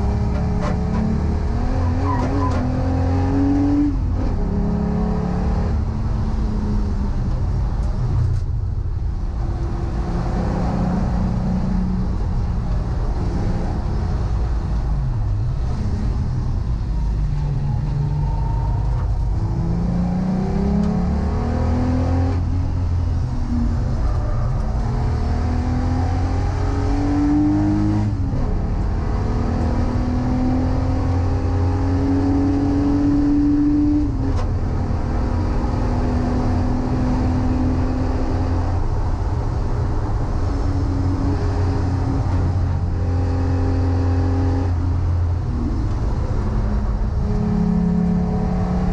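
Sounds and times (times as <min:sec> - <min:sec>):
car engine accelerating through gears: 0:00.0 - 0:48.9.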